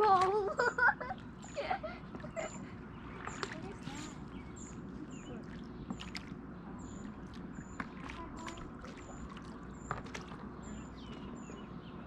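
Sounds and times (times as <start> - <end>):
oars splashing in water: 0.0 - 11.7.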